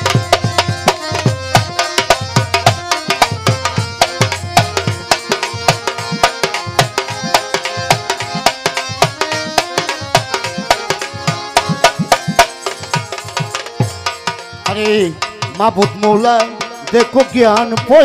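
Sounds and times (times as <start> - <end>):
sustained melody line: 0.0 - 18.0
tabla strokes: 0.0 - 18.0.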